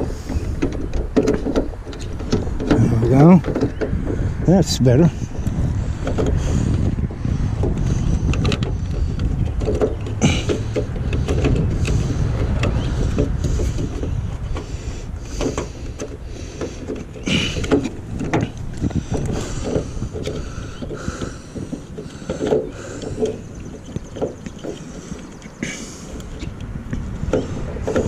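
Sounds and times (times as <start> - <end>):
clicks and rattles of door parts: 0.0 - 4.4, 5.3 - 6.9, 7.6 - 28.0.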